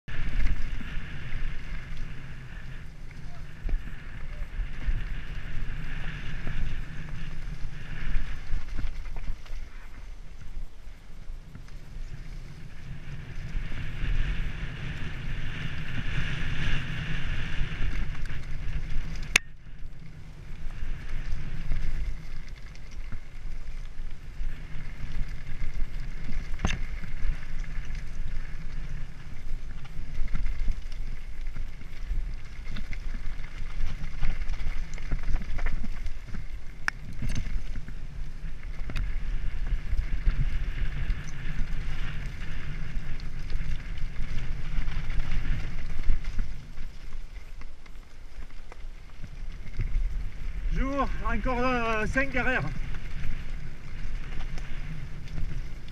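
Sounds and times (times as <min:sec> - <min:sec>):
wind rumble on microphone: 0:00.0 - 0:55.9
bike rattling over rough ground: 0:00.1 - 0:55.9.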